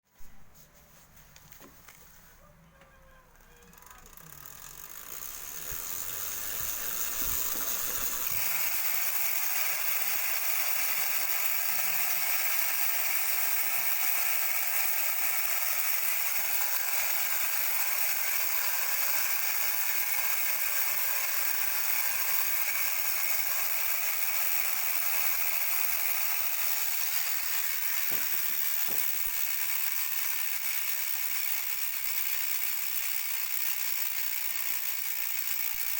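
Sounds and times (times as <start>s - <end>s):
bicycle hub freewheel clicking: 3.3s - 35.9s.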